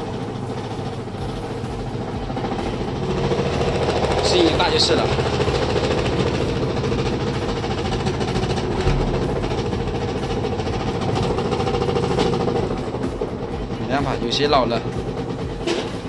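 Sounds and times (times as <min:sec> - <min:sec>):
washing machine drum knocking: 0:00.0 - 0:16.0
washing machine motor humming: 0:00.0 - 0:16.0.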